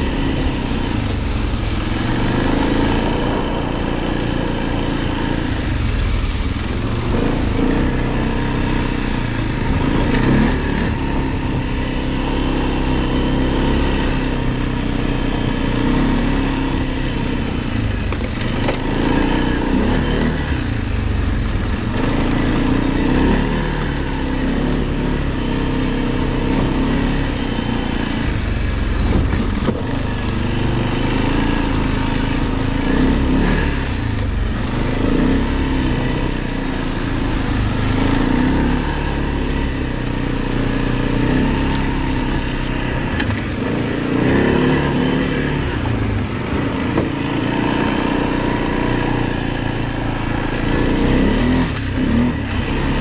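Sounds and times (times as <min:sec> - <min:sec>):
atv engine revving: 0:00.0 - 0:53.0
tyre and trail hiss: 0:00.0 - 0:53.0.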